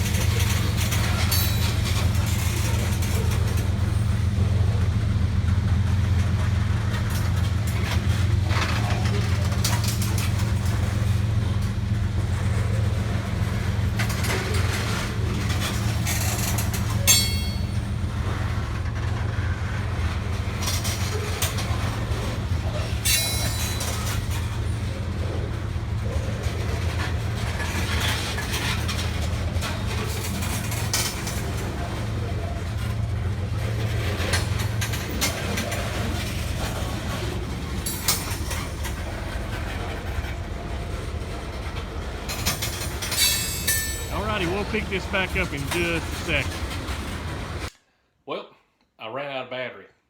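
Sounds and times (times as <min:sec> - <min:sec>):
freight train rumbling past: 0:00.0 - 0:47.7
wheels clacking over rail joints: 0:00.0 - 0:47.7.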